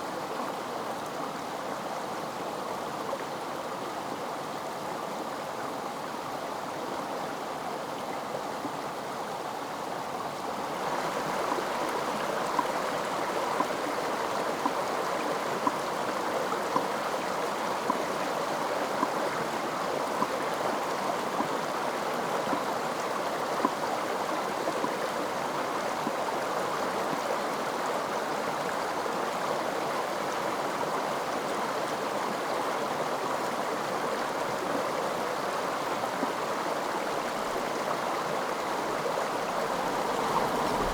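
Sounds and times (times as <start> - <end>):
stream water rushing and gurgling: 0.0 - 40.9.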